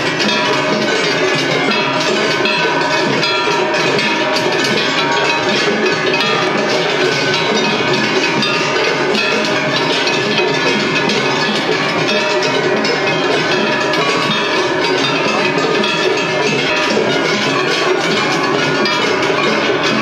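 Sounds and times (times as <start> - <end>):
hand gongs clanging: 0.0 - 20.0
taiko drums: 0.0 - 20.0.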